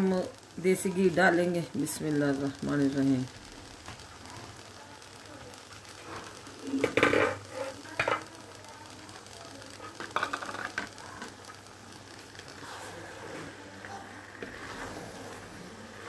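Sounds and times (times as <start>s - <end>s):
carrots hissing in a wok: 0.0s - 16.0s.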